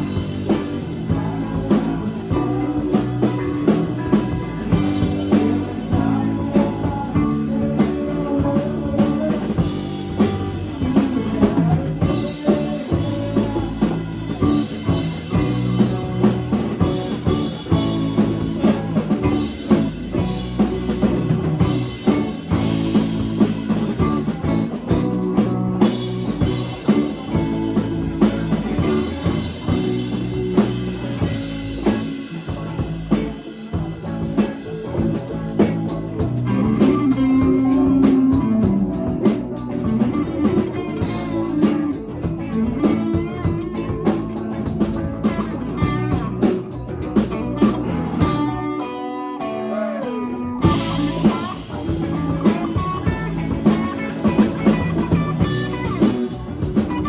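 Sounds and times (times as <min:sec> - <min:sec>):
drum kit beat: 0:00.0 - 0:48.6, 0:49.4 - 0:57.0
electric guitar: 0:00.0 - 0:57.0.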